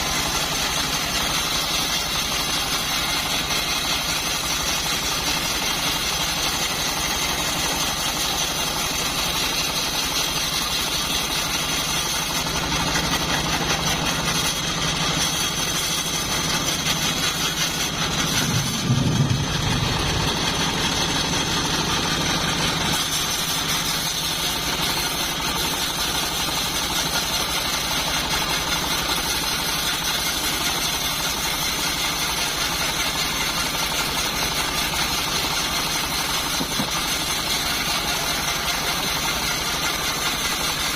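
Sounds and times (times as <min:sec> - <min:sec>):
bandsaw sawmill cutting wood: 0:00.0 - 0:40.9.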